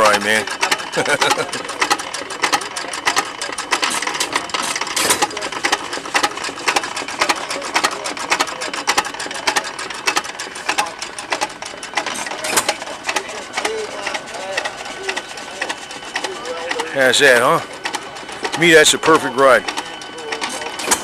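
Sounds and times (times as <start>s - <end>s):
farm engine clattering: 0.0s - 21.0s.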